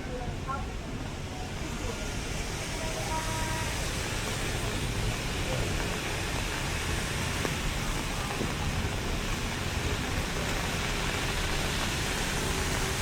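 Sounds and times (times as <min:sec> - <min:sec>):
rain falling: 0:00.0 - 0:13.0
traffic on wet streets: 0:00.0 - 0:13.0.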